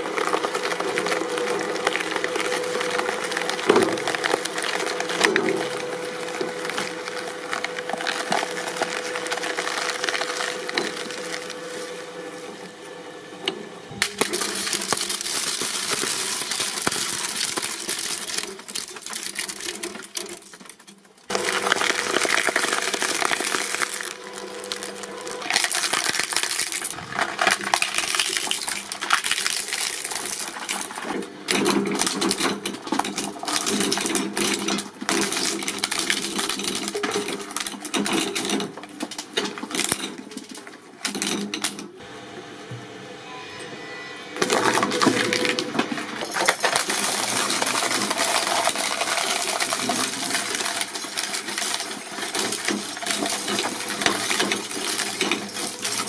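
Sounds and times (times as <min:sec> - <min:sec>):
objects crunching under a press: 0:00.0 - 0:12.7, 0:13.9 - 0:42.0, 0:44.4 - 0:56.0.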